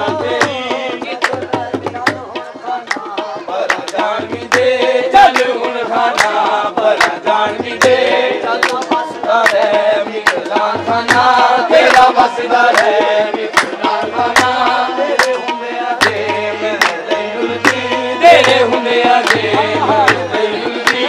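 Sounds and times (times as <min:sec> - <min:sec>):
harmoniums: 0:00.0 - 0:21.0
men singing: 0:00.0 - 0:21.0
percussion beat: 0:00.0 - 0:21.0.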